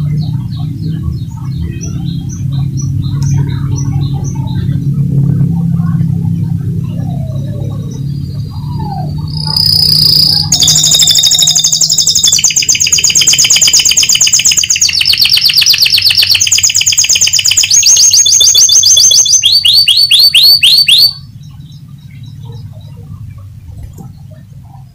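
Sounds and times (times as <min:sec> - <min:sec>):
canary singing trills: 0:00.0 - 0:24.9
low background noise: 0:00.0 - 0:24.9.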